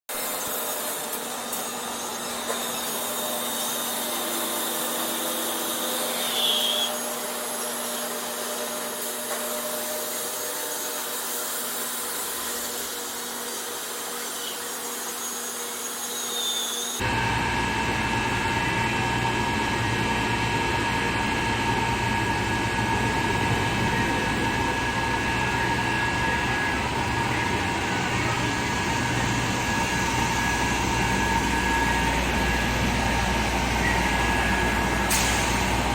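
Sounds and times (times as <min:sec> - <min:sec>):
washing machine hiss and hum: 0:00.1 - 0:16.1, 0:16.9 - 0:35.9.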